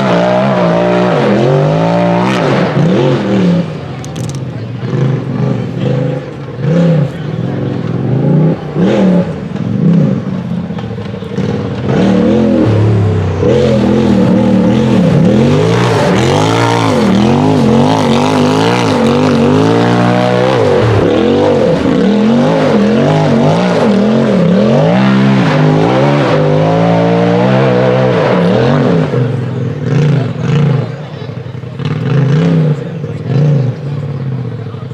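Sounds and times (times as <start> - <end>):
engine revving hard: 0.0 - 3.8, 4.8 - 10.4, 11.4 - 34.2.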